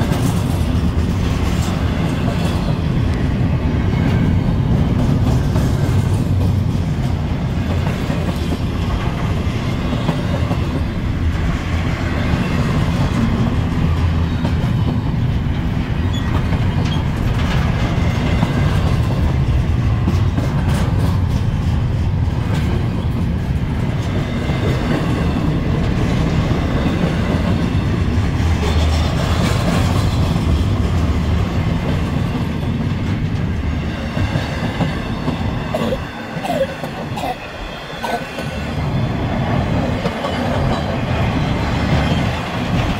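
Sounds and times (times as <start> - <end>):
clickety-clack over rail joints: 0.0 - 42.9
freight train wheels rumbling: 0.0 - 42.9.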